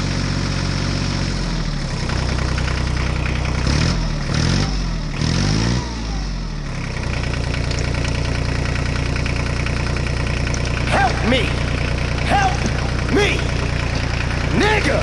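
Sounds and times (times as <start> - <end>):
engine idling and revving: 0.0 - 15.0.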